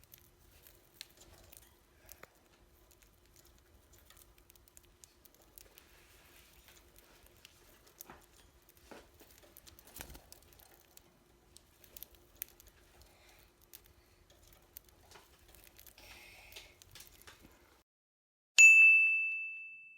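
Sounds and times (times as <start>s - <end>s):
budgie pecking at seed: 0.0s - 17.5s.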